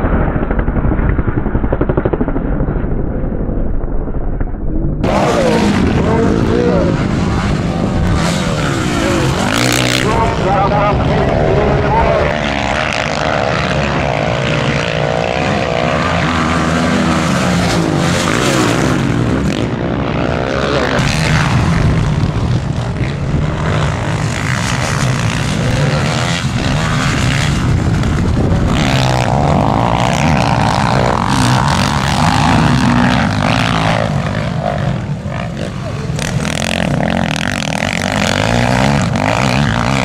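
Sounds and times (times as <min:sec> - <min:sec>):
dirt bike engines revving: 0:05.0 - 0:40.0.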